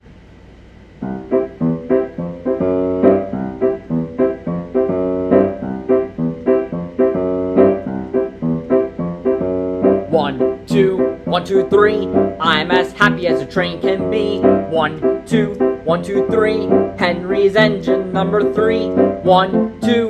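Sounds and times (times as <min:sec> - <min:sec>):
bouncy piano chords: 0:01.0 - 0:20.0.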